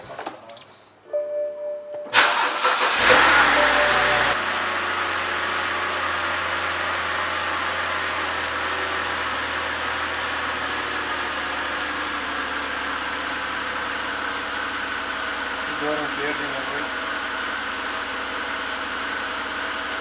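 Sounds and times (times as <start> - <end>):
car engine idling: 2.2 - 20.0.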